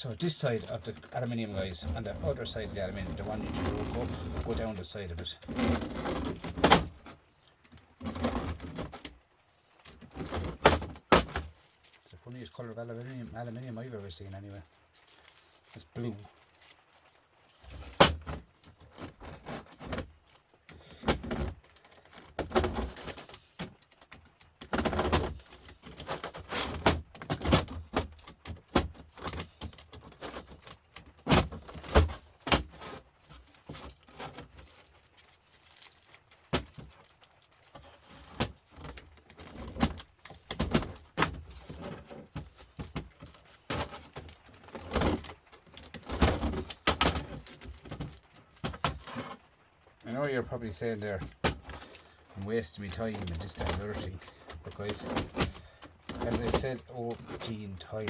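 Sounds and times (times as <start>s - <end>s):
metal fins bending and scraping: 0.0s - 58.0s.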